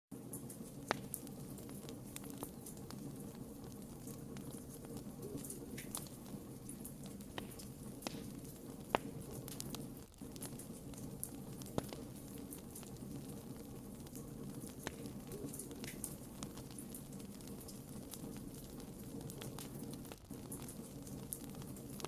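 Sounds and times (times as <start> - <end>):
wood fire crackling: 0.1 - 22.0
low rush of flame: 0.2 - 22.0
sharp fire pops: 0.3 - 22.0.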